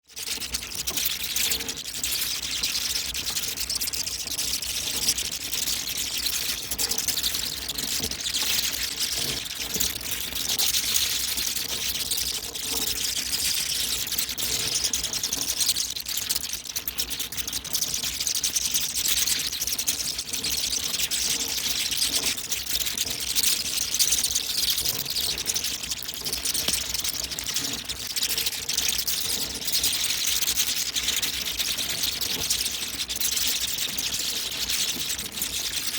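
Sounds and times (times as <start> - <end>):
fruit bats squeaking and clicking: 0.3 - 35.9.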